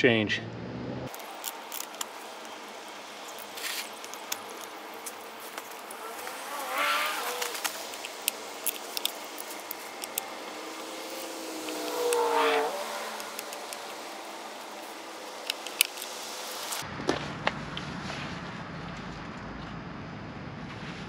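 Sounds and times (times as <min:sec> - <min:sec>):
motor vehicle passing: 0:00.3 - 0:21.0.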